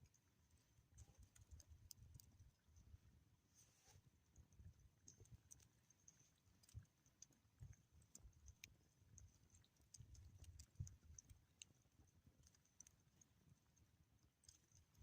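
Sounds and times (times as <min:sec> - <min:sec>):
faint small clicks: 0:00.0 - 0:03.0, 0:03.6 - 0:15.0.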